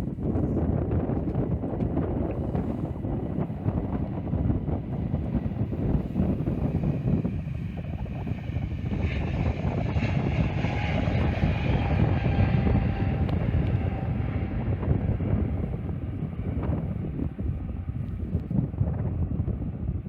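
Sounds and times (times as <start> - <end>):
airliner engines rumbling: 0.0 - 20.0
jet engine whine: 0.0 - 20.0
wind buffeting microphone: 0.0 - 20.0.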